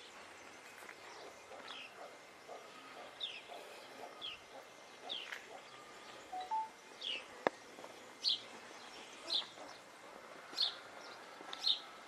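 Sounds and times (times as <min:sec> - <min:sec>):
faint bird chirping: 0:00.0 - 0:10.0
low outdoor hiss: 0:00.0 - 0:12.0.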